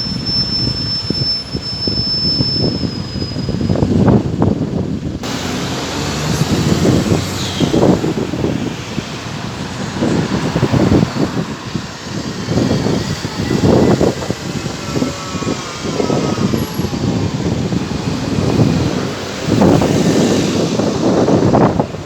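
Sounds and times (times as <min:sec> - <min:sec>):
wind gusting on microphone: 0:00.0 - 0:22.0
bus passing: 0:02.9 - 0:22.0.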